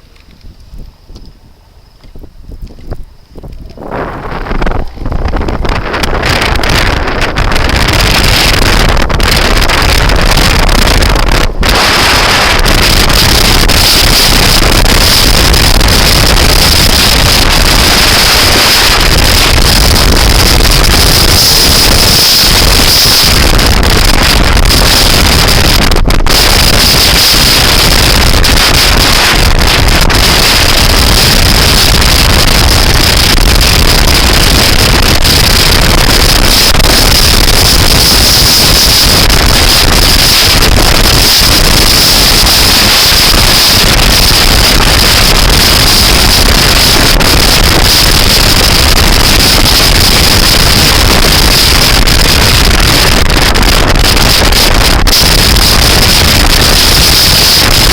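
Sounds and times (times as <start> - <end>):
scooter ride rumble: 0.0 - 57.9
wind buffeting microphone: 0.0 - 57.9.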